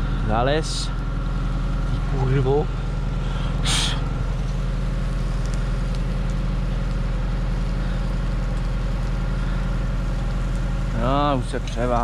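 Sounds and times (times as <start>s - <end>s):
farm machine engine humming: 0.0s - 12.0s.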